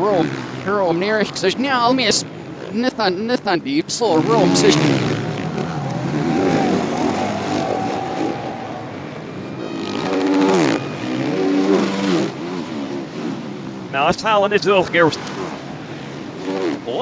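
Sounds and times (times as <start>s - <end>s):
motocross bikes revving in reverse: 0.0s - 17.0s.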